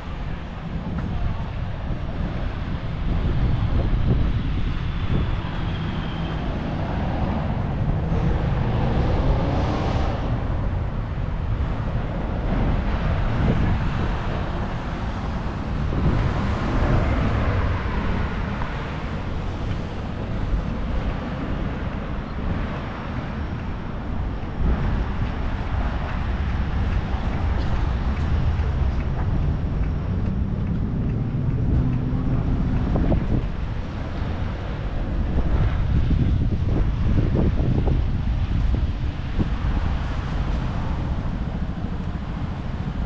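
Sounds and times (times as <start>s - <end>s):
busy road traffic: 0.0s - 43.0s.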